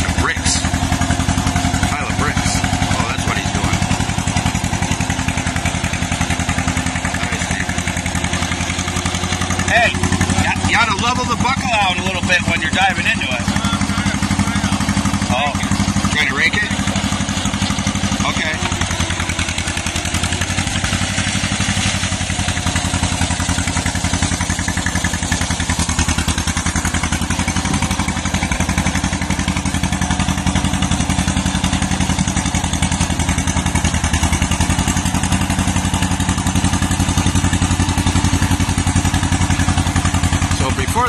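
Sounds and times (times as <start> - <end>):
bulldozer engine running: 0.0 - 41.0.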